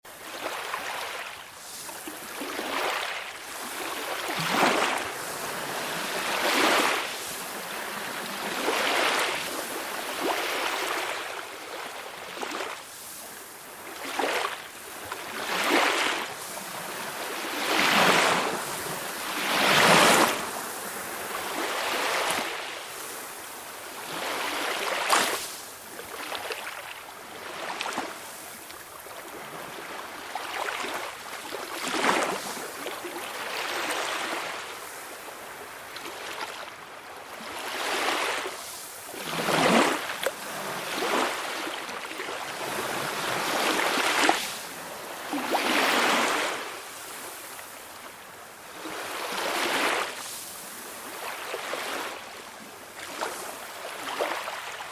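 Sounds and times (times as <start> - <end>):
small waves washing ashore: 0.0 - 54.9.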